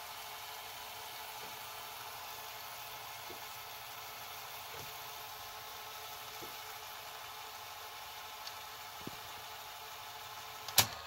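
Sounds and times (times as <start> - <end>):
tape reel drive whirring: 0.0 - 11.0.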